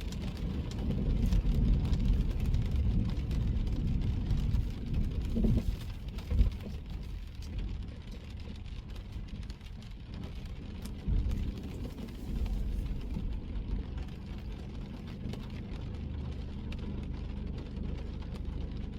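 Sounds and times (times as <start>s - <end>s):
car rumbling on road: 0.0s - 18.9s
raindrops pattering: 0.0s - 18.9s.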